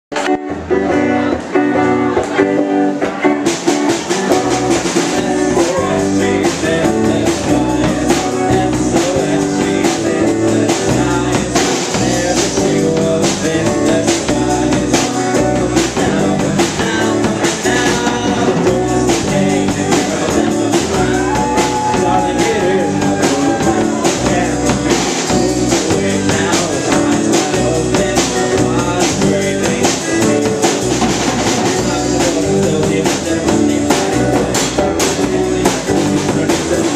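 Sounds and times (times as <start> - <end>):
live rock band playing: 0.1 - 36.9.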